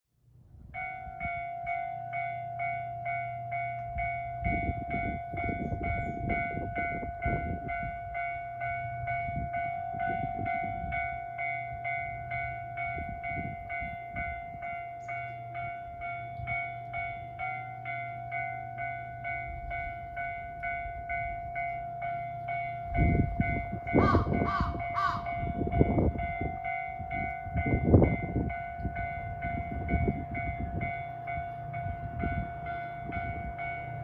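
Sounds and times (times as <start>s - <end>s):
level-crossing warning bell: 0.3s - 34.0s.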